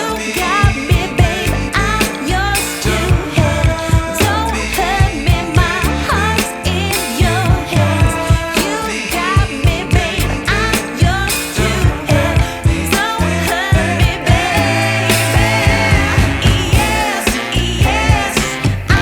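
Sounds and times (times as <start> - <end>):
drum beat: 0.0 - 10.2, 10.8 - 19.0
person singing: 0.0 - 19.0
deep bass: 0.9 - 8.4, 9.8 - 19.0.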